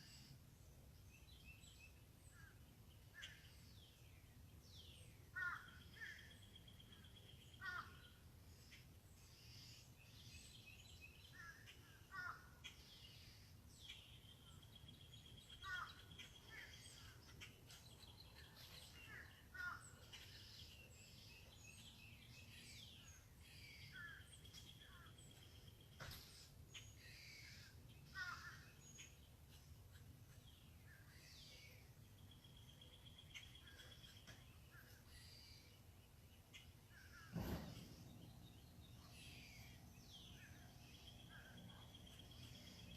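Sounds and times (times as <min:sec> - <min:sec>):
birds chirping and calling: 0:01.2 - 0:42.9.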